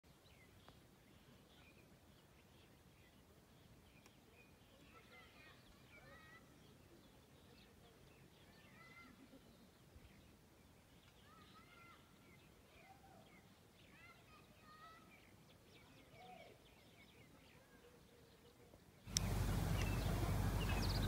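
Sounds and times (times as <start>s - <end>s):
faint birdsong chirping: 0.0s - 21.0s
low steady background noise: 0.0s - 21.0s.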